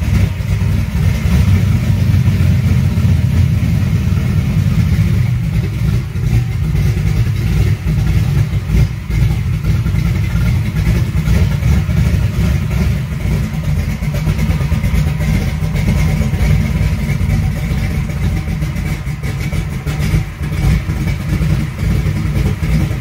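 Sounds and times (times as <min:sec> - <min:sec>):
car engine exhaust rumble: 0:00.0 - 0:23.0.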